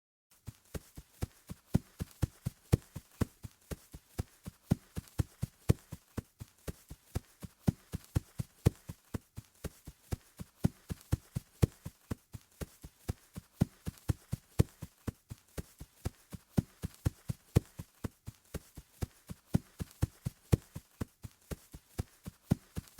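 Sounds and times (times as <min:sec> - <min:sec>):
footsteps running on grass: 0:00.4 - 0:22.9.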